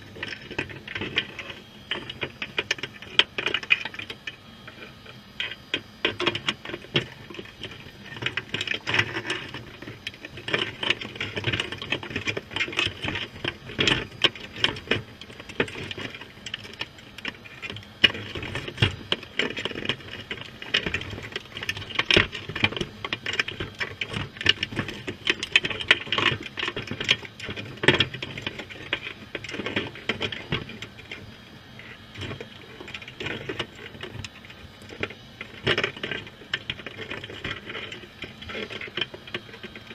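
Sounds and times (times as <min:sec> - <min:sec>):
crabs clicking on wire mesh: 0:00.0 - 0:39.9.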